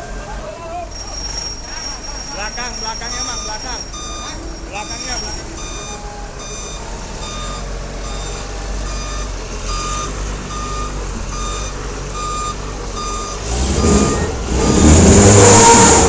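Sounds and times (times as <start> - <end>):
vehicle engine running: 0.0 - 16.0
reversing alarm beeps: 0.9 - 16.0.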